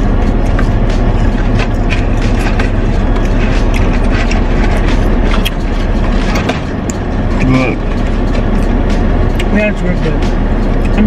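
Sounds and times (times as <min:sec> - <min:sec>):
car engine rumble: 0:00.0 - 0:11.0
clicks and rustles of eating: 0:00.3 - 0:09.5.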